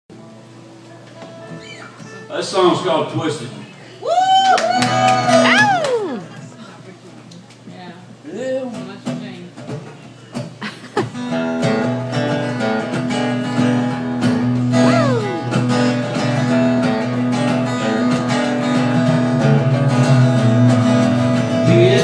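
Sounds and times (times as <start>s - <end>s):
acoustic guitar strumming: 0.1s - 3.7s, 4.8s - 5.8s, 8.4s - 22.0s.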